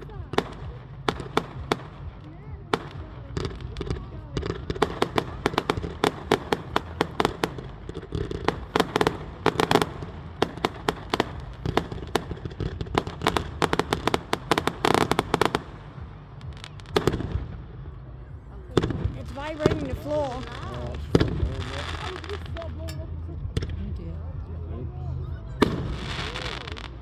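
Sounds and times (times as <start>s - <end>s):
fireworks bangs and crackles: 0.0s - 27.0s
low rumble: 0.0s - 27.0s.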